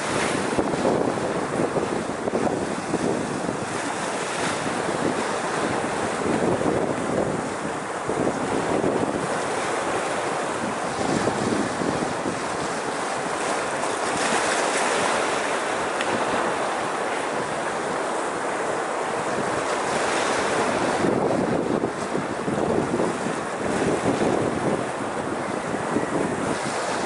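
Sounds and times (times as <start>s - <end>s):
waves washing over rocks: 0.0s - 27.0s
wind buffeting microphone: 0.0s - 27.0s.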